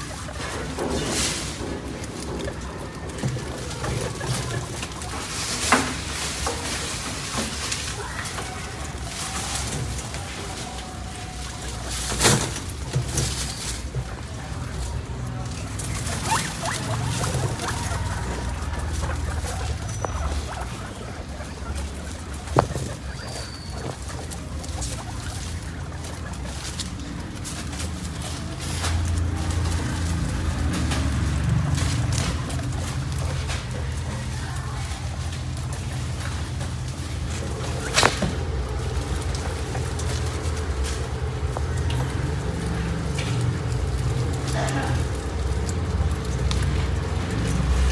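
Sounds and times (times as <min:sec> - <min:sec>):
bedding and grass rustling: 0:00.0 - 0:47.9
guinea pigs squeaking: 0:00.0 - 0:47.9.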